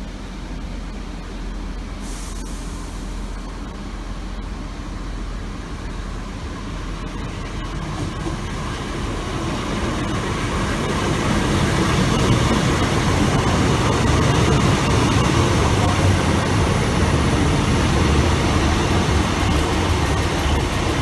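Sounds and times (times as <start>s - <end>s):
diesel train engine: 0.0s - 21.0s
train wheels on rails: 0.0s - 21.0s.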